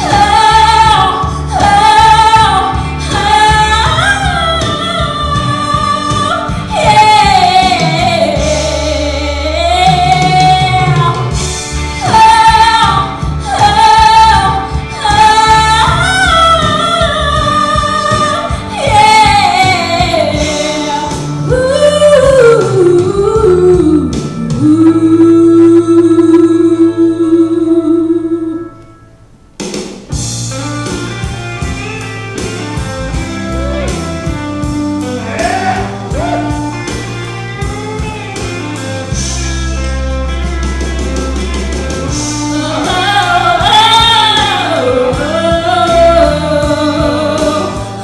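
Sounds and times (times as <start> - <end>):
instrumental backing music: 0.0 - 48.0.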